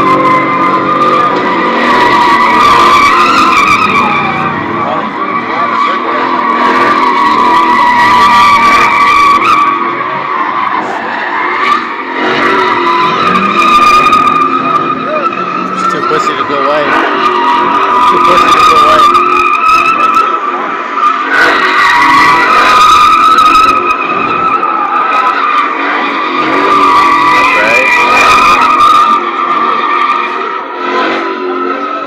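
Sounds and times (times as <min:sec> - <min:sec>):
tyres squealing: 0:00.0 - 0:32.0.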